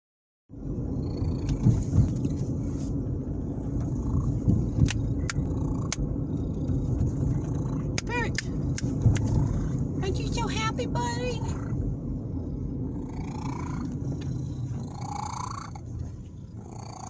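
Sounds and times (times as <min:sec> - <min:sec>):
car engine and road rumble: 0:00.5 - 0:17.0.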